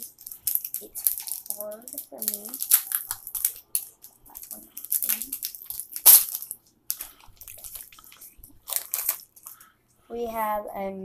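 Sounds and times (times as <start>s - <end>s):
foil wrapper crinkling and tearing: 0.0s - 9.7s.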